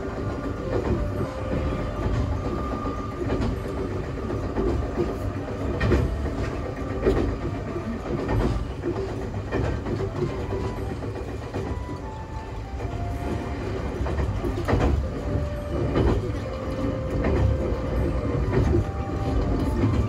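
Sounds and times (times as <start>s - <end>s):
train running gear rumble: 0.0s - 20.0s
wheels clicking over rail joints: 0.0s - 20.0s.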